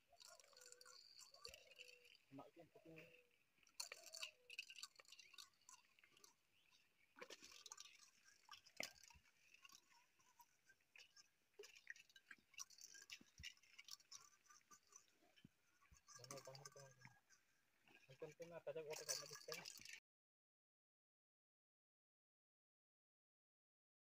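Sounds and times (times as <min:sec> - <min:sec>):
faint crackles and clicks: 0:00.0 - 0:20.0.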